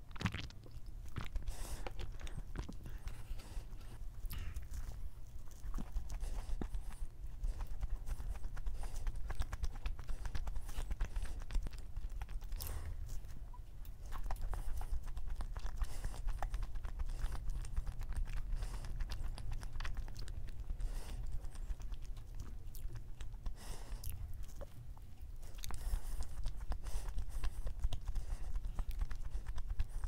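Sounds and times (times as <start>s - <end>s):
chewing mouth clicks and smacks: 0.0s - 30.0s.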